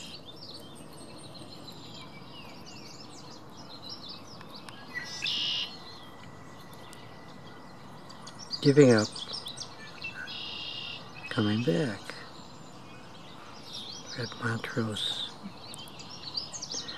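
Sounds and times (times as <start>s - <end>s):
outdoor background noise: 0.0s - 16.9s
songbirds chirping and singing: 0.0s - 16.9s.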